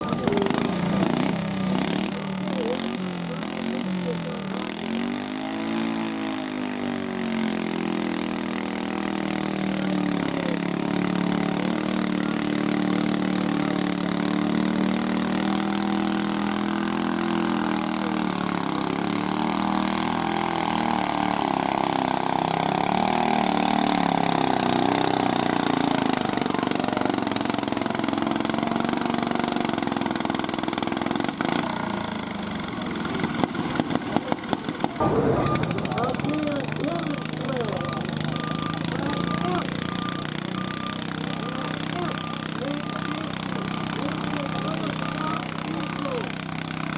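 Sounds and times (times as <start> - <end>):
tractor engine running under load: 0.0 - 46.9.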